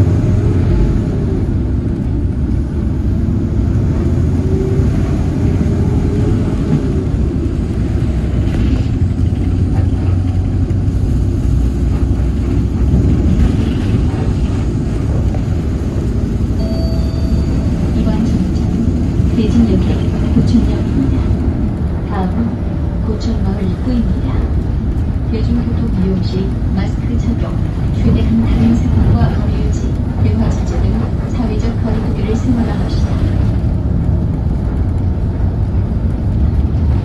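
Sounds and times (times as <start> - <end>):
bus engine rumble: 0.0 - 37.0.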